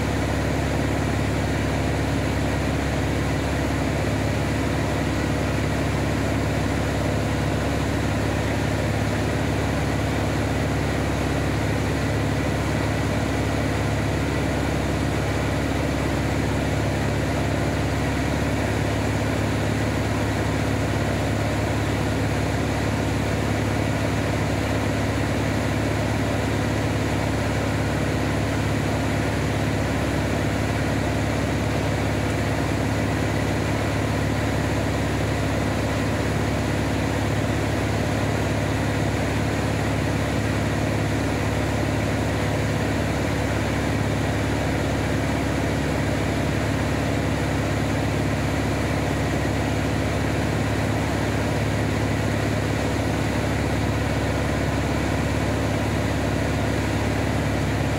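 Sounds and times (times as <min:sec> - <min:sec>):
aircraft engine and propeller drone: 0:00.0 - 0:57.9.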